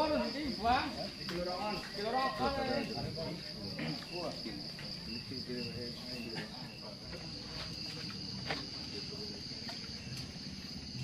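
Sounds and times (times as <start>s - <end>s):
crickets chirring: 0.0s - 11.0s
low crowd chatter: 0.0s - 11.0s.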